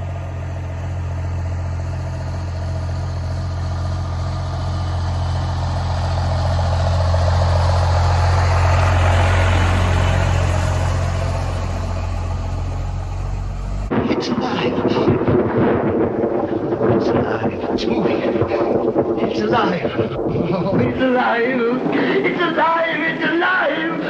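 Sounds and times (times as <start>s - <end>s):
engine idling: 0.0s - 23.8s.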